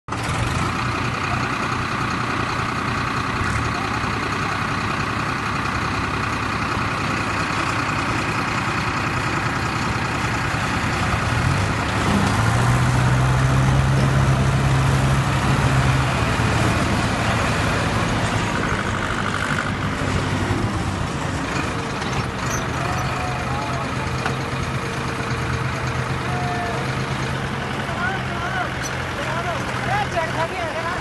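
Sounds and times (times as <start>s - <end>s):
tractor diesel engines running: 0.0s - 31.0s.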